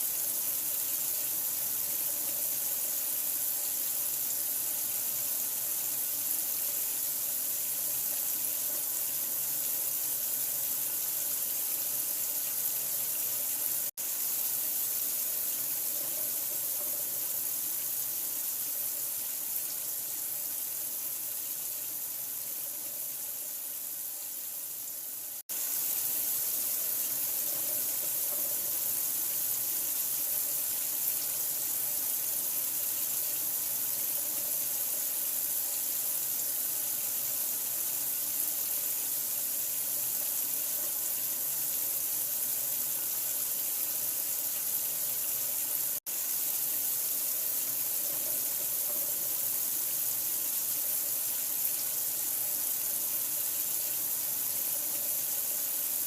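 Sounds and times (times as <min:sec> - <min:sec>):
running water hissing: 0:00.0 - 0:56.0.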